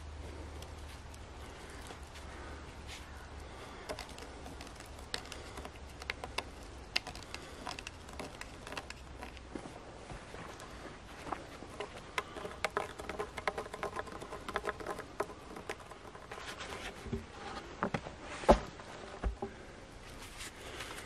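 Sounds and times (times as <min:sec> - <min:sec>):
hands and tools scraping logs: 0:00.2 - 0:21.0.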